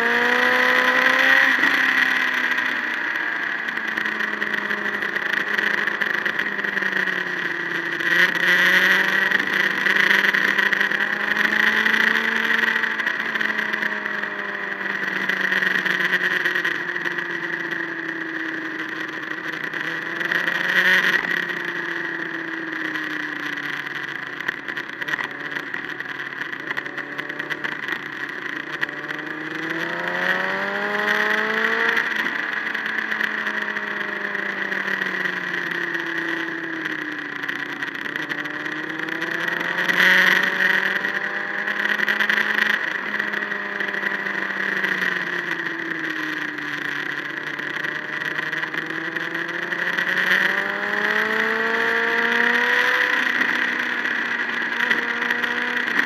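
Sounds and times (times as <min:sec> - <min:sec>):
road noise: 0:00.0 - 0:56.0
vehicle engine accelerating: 0:00.0 - 0:56.0
wind: 0:00.0 - 0:56.0.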